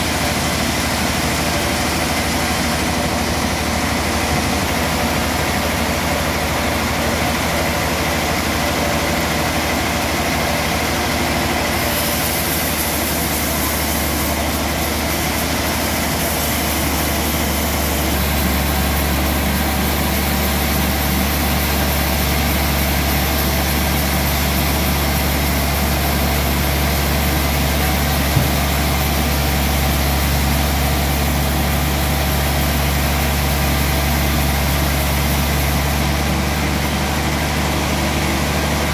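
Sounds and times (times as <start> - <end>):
band sawmill humming: 0.0 - 38.9.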